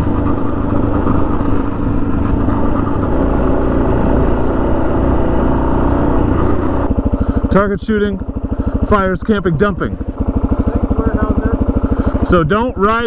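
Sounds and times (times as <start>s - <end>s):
motorcycle engine running: 0.0s - 13.0s
riding wind noise: 0.0s - 13.0s.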